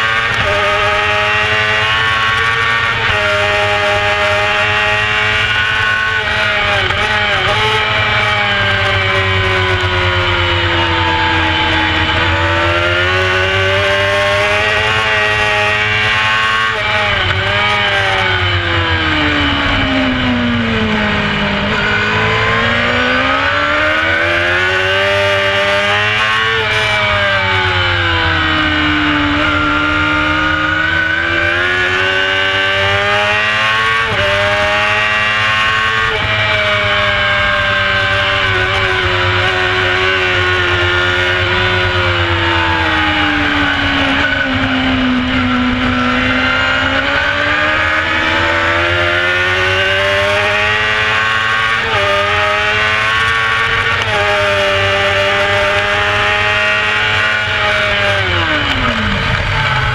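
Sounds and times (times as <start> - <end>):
race bike engine at high revs: 0.0 - 59.9.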